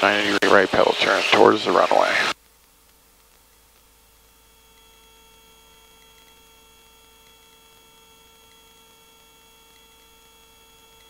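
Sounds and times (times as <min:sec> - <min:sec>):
faint electrical hum: 0:00.0 - 0:11.0
high whine tones: 0:00.0 - 0:11.0.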